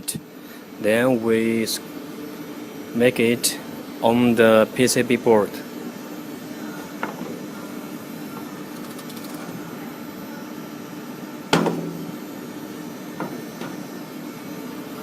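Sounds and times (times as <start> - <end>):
factory machinery humming: 0.0 - 15.0.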